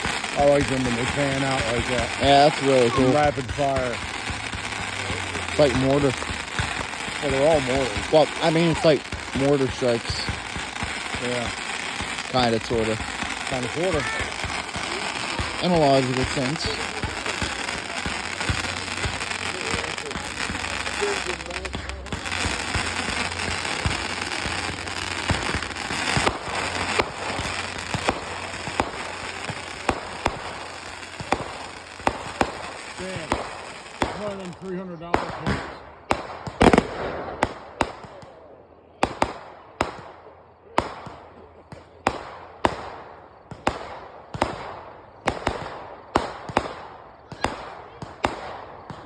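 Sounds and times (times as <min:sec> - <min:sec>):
fireworks crackling: 0:00.0 - 0:49.0
fireworks sharp bangs: 0:00.0 - 0:49.0.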